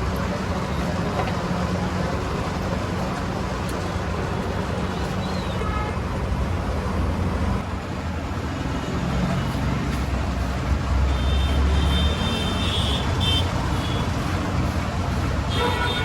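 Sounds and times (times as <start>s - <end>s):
road traffic: 0.0s - 16.0s
vehicle engine running nearby: 0.0s - 16.0s.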